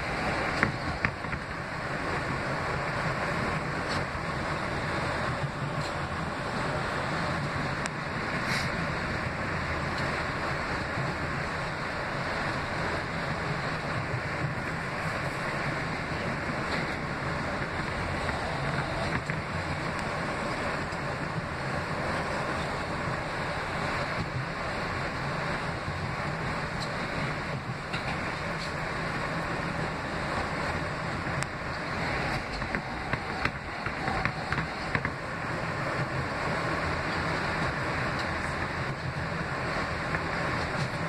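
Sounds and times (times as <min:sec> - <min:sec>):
subway car wheels rumbling on rail: 0:00.0 - 0:41.0.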